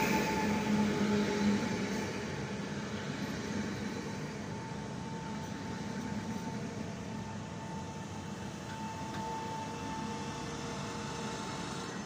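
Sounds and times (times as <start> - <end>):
electric train drive hum and whine: 0.0 - 12.0.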